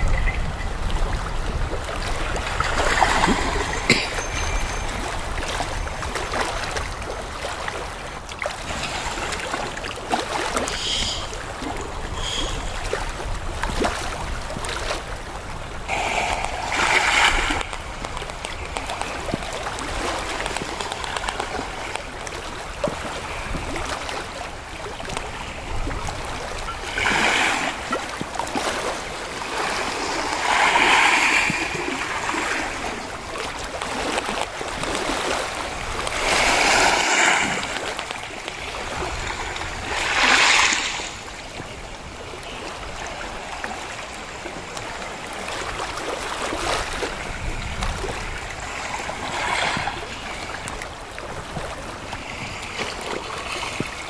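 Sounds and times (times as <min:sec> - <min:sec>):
waves washing over pebbles: 0:00.0 - 0:54.0.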